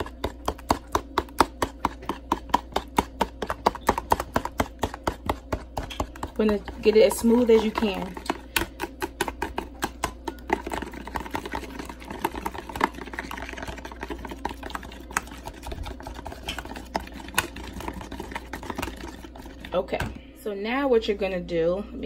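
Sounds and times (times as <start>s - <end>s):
batter sloshing: 0.0s - 20.4s.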